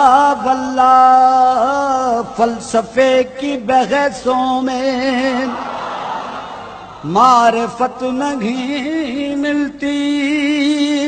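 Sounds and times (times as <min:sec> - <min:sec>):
man chanting poetry: 0:00.0 - 0:05.6, 0:07.0 - 0:11.0.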